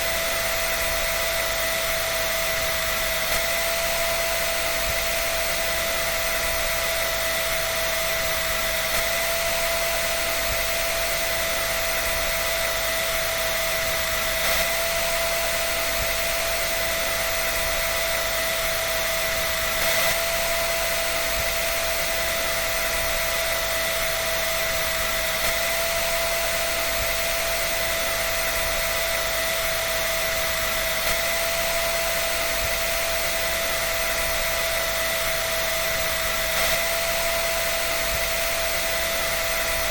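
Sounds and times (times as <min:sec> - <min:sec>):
dryer blowing air with whine: 0:00.0 - 0:39.9.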